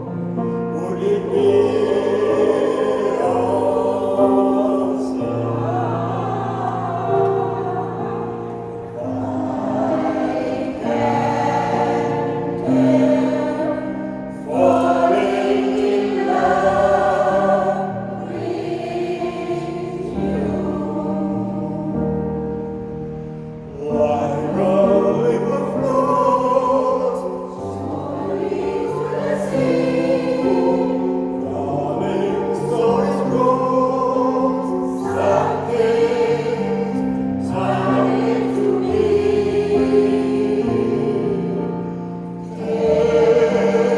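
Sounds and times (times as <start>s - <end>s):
choir singing: 0.0s - 43.9s.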